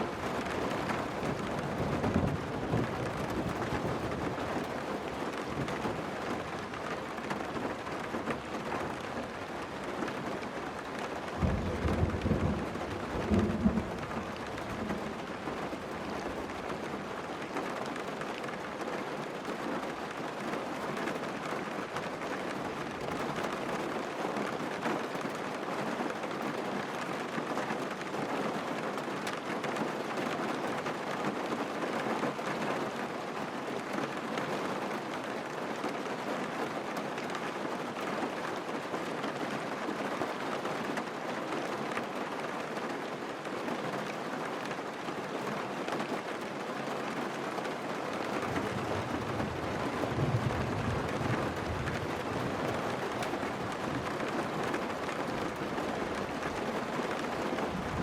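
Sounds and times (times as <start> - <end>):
heavy rain on a car: 0.0 - 58.0.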